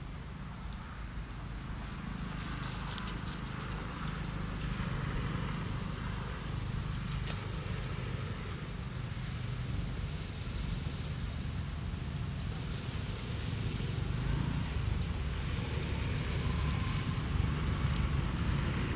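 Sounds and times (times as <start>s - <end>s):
low outdoor rumble: 0.0s - 18.9s.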